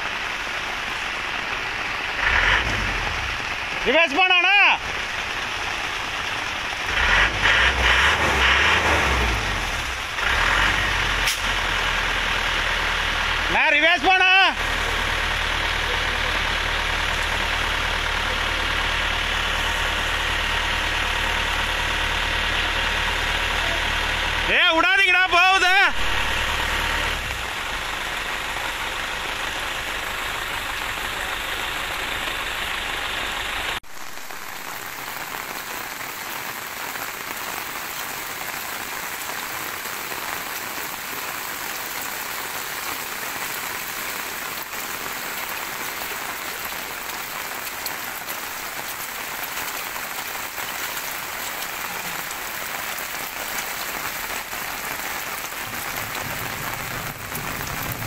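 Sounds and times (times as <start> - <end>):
heavy rain on road: 0.0 - 58.0.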